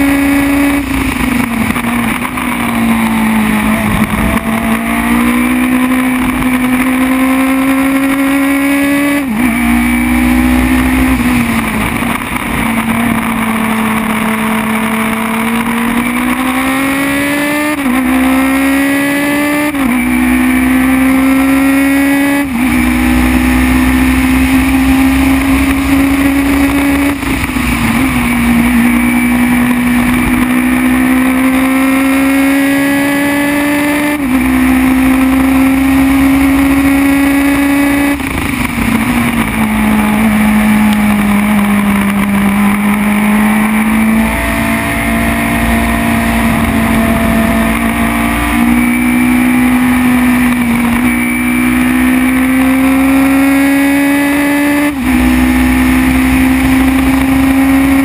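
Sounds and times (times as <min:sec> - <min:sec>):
race car engine at full throttle: 0:00.0 - 0:58.0
wind and tyre noise: 0:00.0 - 0:58.0.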